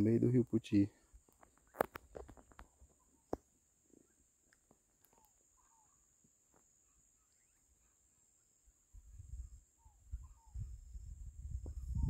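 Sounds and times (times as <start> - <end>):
faint bird calls: 0.9 - 12.0.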